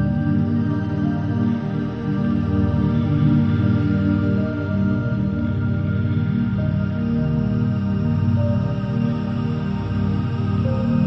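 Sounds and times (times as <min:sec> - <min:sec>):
ambient music with sustained tones: 0:00.0 - 0:11.0.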